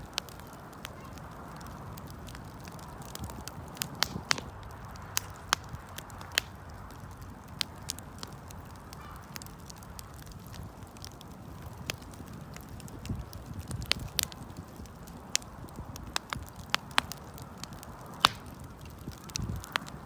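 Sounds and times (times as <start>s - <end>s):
burning wood popping and crackling: 0.0s - 20.0s
wood fire burning: 0.0s - 20.0s.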